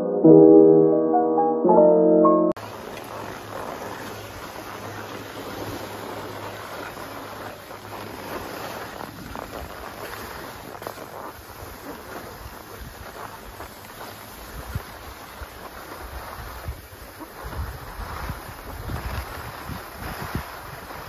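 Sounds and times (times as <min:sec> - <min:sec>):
skis scraping on snow: 0:02.6 - 0:21.0
wind rumble on microphone: 0:02.6 - 0:21.0.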